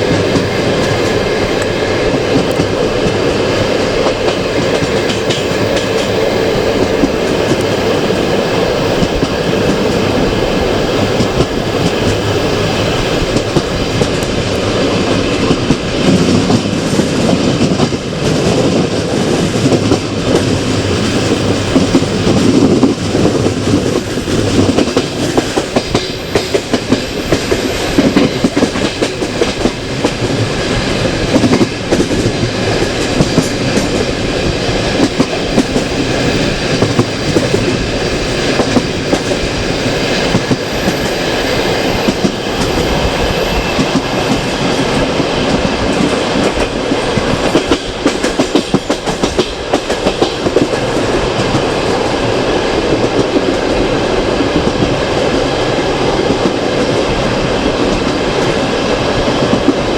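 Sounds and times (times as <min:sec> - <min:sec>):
train wheels clattering over rail joints: 0:00.0 - 0:41.2, 0:41.8 - 0:52.2.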